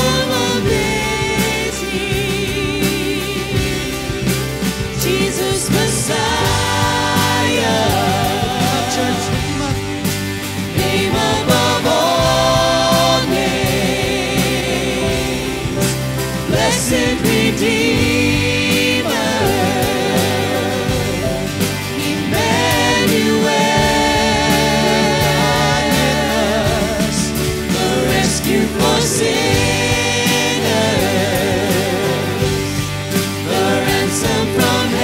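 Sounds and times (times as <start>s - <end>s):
keyboard and band accompaniment: 0.0s - 35.0s
voices singing together: 0.0s - 35.0s.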